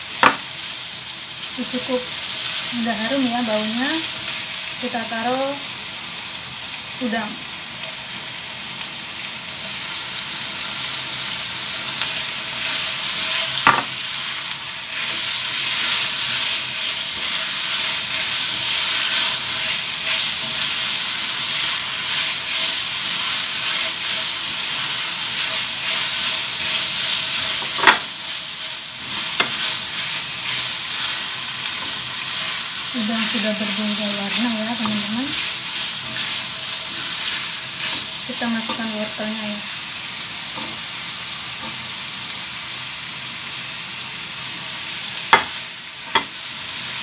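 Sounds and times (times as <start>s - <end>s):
food sizzling in hot oil: 0.0s - 47.0s.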